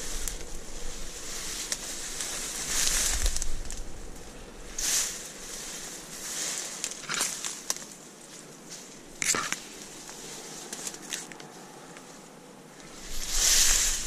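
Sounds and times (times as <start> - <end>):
dry grass rustling underfoot: 0.0 - 14.0.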